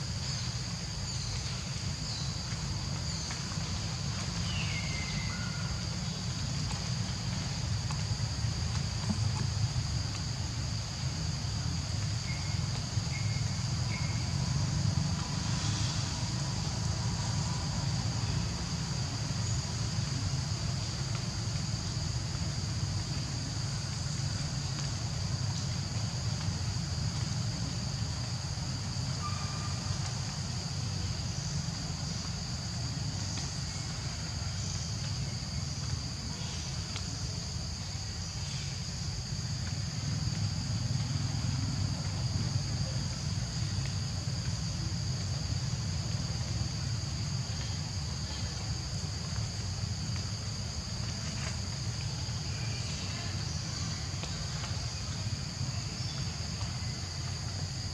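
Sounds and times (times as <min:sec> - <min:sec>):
high insect drone: 0:00.0 - 0:57.9.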